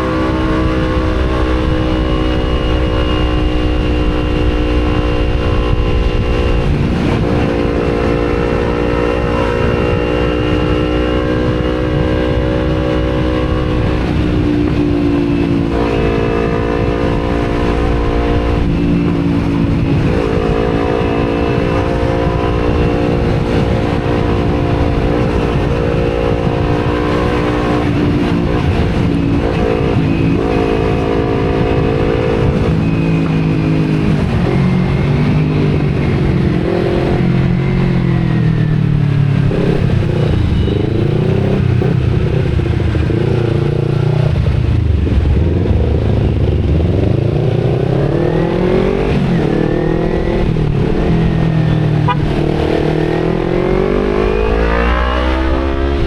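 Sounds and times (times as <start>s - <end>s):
motorcycle engine in traffic: 0.0s - 56.0s.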